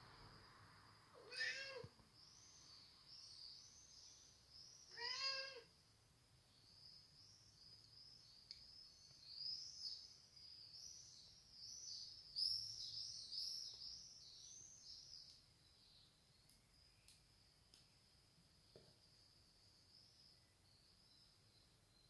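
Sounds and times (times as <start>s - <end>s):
small birds chirping: 1.2s - 22.0s.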